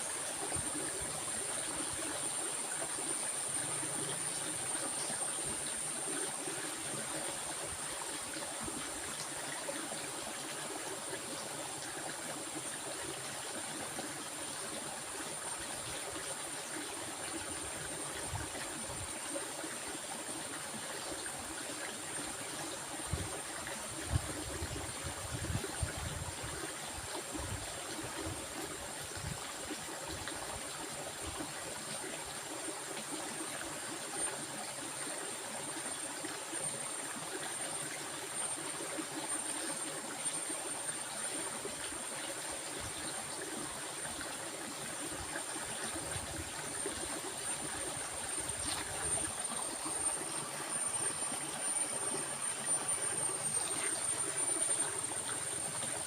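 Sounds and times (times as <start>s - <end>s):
stream of water running: 0.0s - 56.0s.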